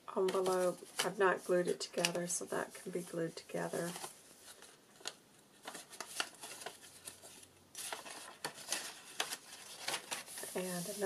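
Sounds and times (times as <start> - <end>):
paper rustling: 0.2 - 11.0.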